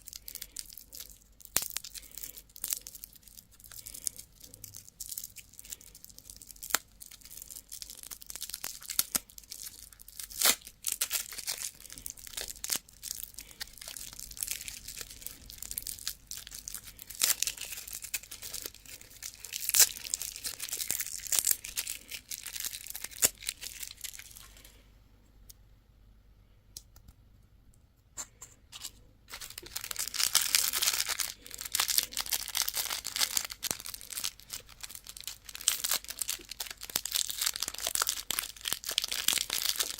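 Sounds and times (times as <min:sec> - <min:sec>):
wrappers tearing and crinkling: 0:00.0 - 0:24.7, 0:28.8 - 0:39.9.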